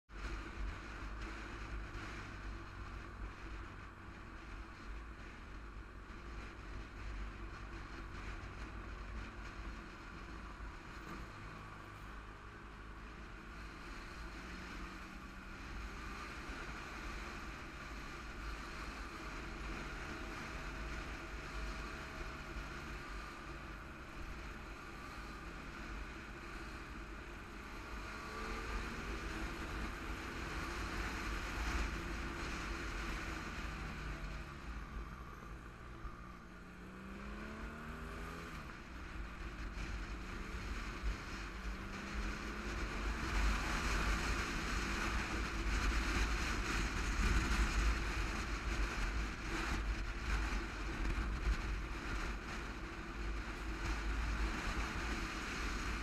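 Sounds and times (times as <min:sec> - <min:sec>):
motorcycle engine running: 0:00.1 - 0:56.0
wind rumble on microphone: 0:00.1 - 0:56.0.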